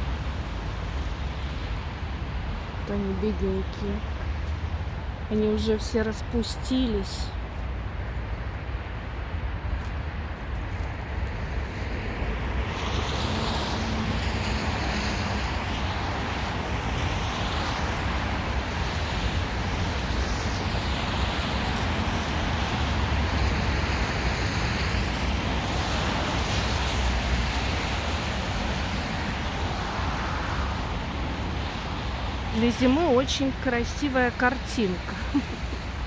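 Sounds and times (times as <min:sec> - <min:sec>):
wind blowing over microphone: 0:00.0 - 0:36.0.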